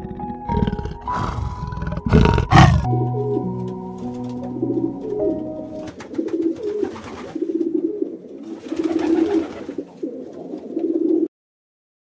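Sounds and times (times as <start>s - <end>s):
pigeons cooing: 0.0s - 11.3s.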